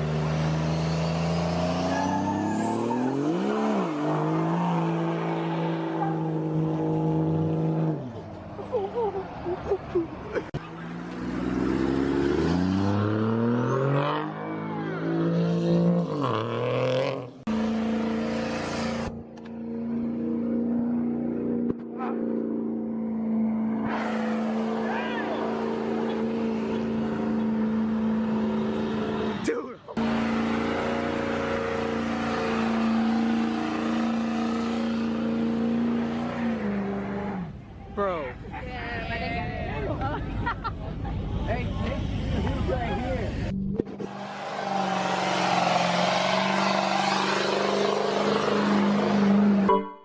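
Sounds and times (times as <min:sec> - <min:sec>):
vehicle engine revving: 0:00.0 - 0:08.3, 0:10.5 - 0:37.7, 0:41.4 - 0:49.7.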